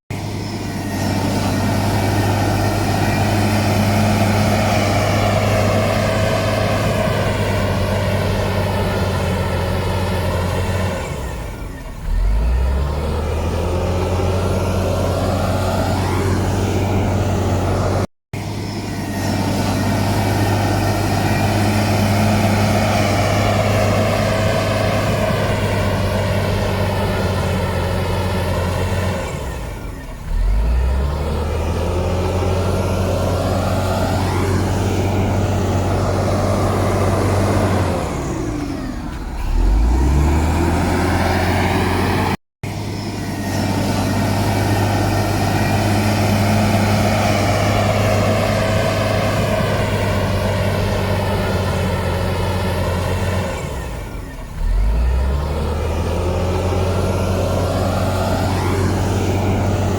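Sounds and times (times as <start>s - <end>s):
heavy diesel engine under load: 0.1s - 59.9s.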